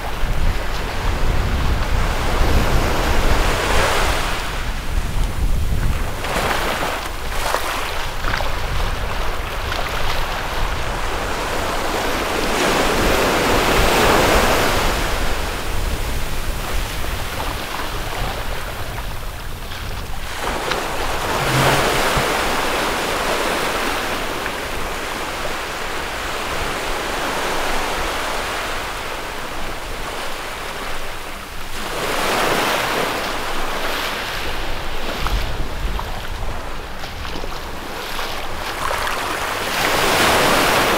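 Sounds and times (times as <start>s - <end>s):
waves washing up on beach: 0.0s - 40.9s
wind rumble on microphone: 0.0s - 40.9s.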